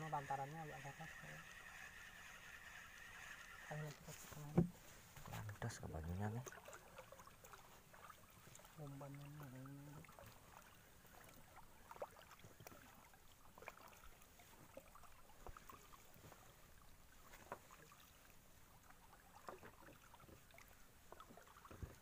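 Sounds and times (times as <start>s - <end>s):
paddle knocks and water dips: 3.7s - 22.0s.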